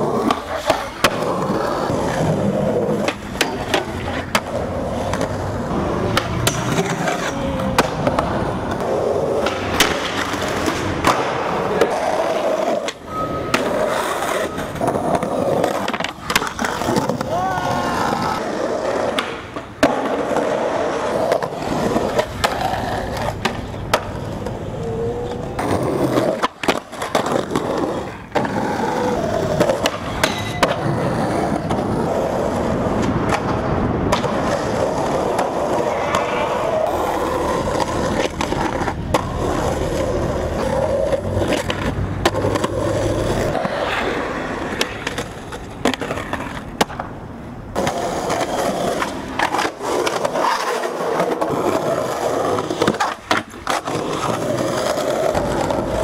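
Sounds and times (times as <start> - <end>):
skateboard clacks: 0.0 - 56.0
skateboard trucks grinding ledge: 0.0 - 56.0
skateboard wheels rolling on concrete: 0.0 - 56.0.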